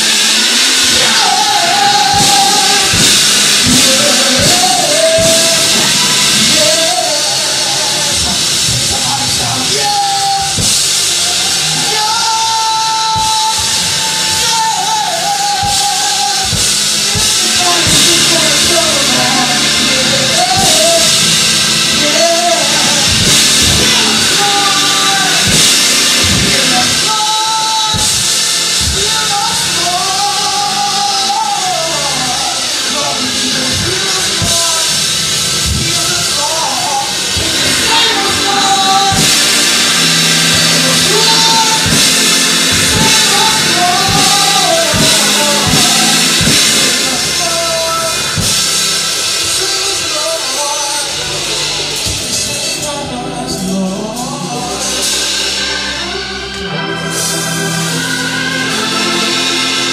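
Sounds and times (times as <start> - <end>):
band playing: 0.0 - 59.9
person singing into microphone: 0.0 - 59.9.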